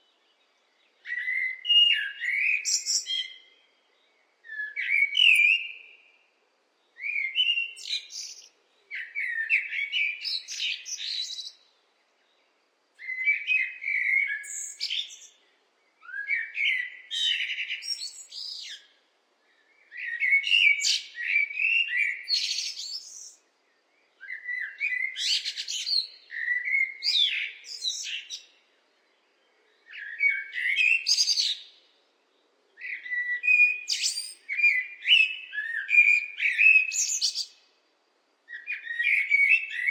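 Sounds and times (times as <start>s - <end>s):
blackbird singing: 0.0s - 6.2s, 6.8s - 12.4s, 13.0s - 31.9s, 32.8s - 37.7s, 38.5s - 39.9s.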